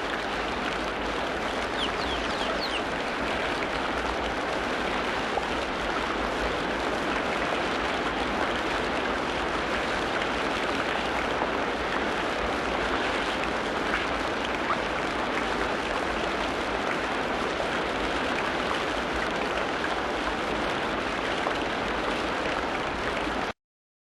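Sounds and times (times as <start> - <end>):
steady rain patter: 0.0 - 23.5.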